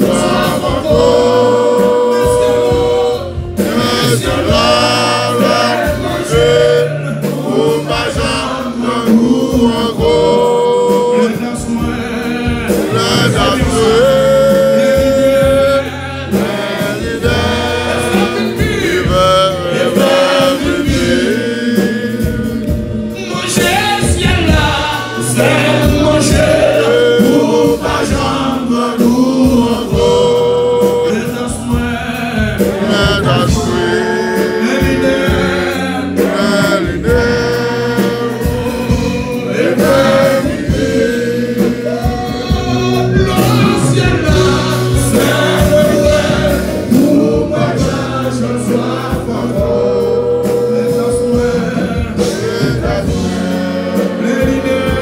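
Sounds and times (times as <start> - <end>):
band accompaniment: 0.0 - 55.0
man singing lead: 0.0 - 55.0
women singing backing vocals: 0.0 - 55.0.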